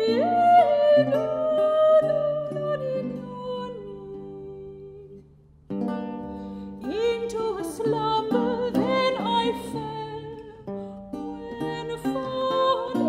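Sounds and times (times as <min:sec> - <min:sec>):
soprano singing with vibrato: 0:00.0 - 0:05.2, 0:06.8 - 0:13.0.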